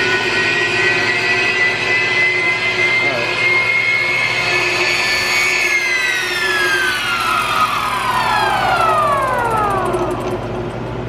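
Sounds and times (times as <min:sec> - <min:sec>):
low hum: 0:00.0 - 0:11.0
mixer motor high whine: 0:00.0 - 0:11.0.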